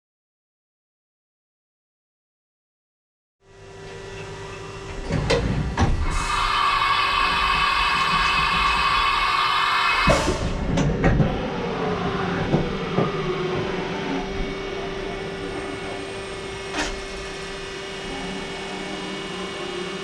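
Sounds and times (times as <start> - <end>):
machining centre whine: 3.5 - 20.0.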